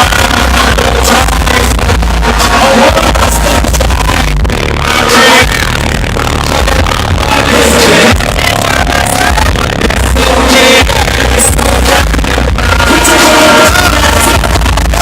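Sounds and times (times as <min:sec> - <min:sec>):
live hip-hop music over loudspeakers: 0:00.0 - 0:15.0.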